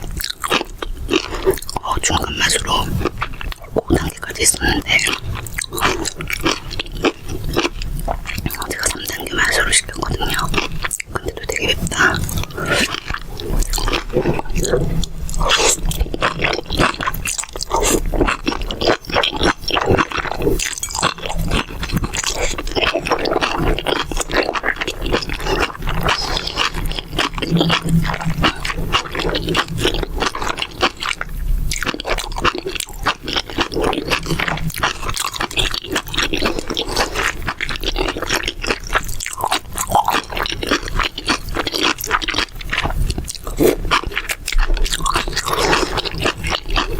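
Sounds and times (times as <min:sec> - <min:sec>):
close chewing crunches: 0:00.0 - 0:46.9
wet mouth clicks: 0:00.0 - 0:46.9.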